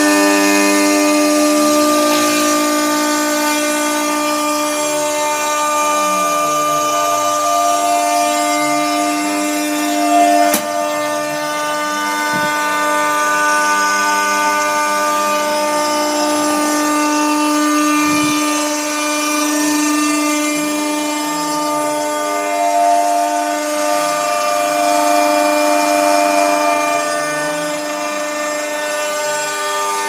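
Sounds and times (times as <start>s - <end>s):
cutter in wood: 0.0s - 30.0s
router spindle whining: 0.0s - 30.0s.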